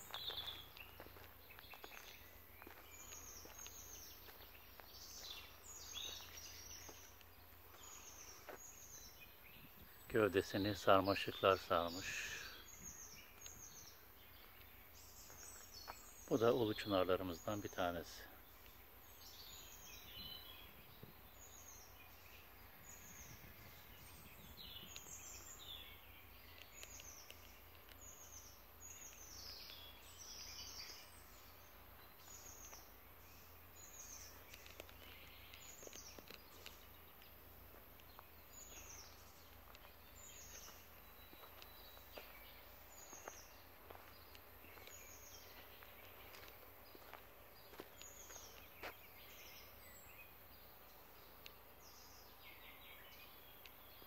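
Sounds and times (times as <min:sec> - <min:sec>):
bird song with falling notes: 0:00.0 - 0:54.0.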